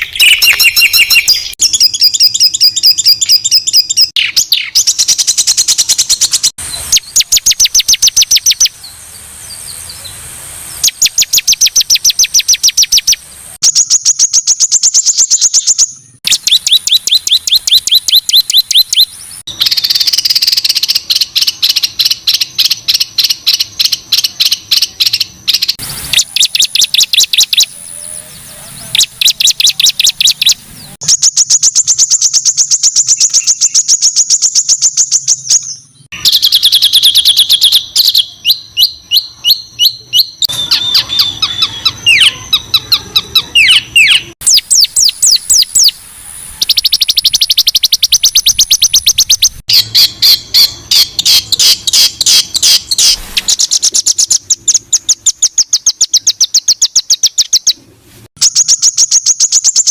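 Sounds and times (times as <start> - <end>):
songbirds rapid trills: 0.0 - 59.9.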